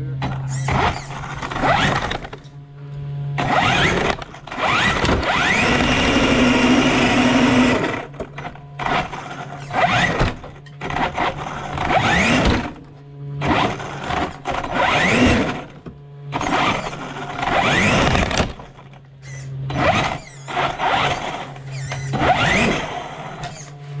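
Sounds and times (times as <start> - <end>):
electric motor revving whine: 0.0 - 24.0.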